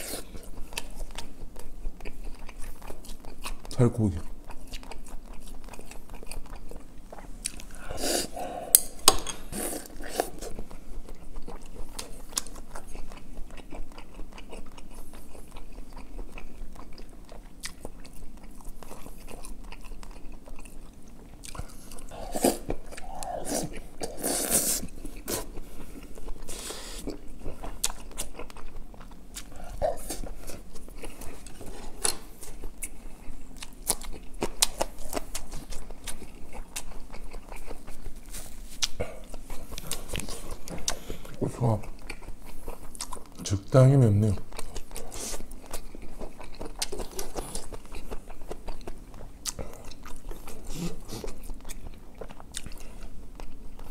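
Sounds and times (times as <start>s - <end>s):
wet chewing: 0.0s - 43.6s, 44.2s - 53.9s.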